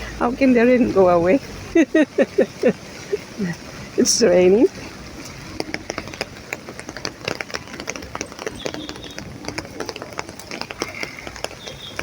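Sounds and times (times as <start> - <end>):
outdoor background: 0.0 - 12.0
rain on an umbrella: 0.0 - 12.0.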